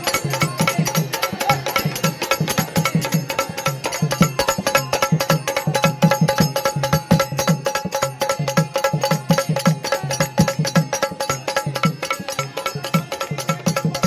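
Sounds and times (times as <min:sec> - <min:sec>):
fast drum rhythm: 0:00.0 - 0:14.0.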